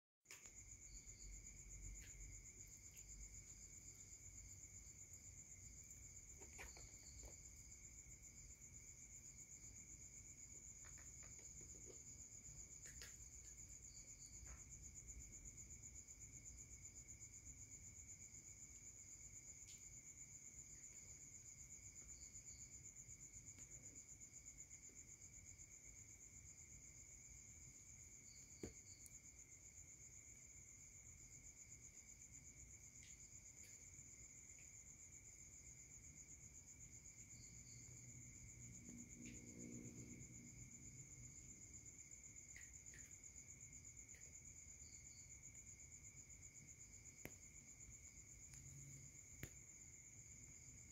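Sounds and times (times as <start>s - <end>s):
insect trill: 0.3s - 50.9s.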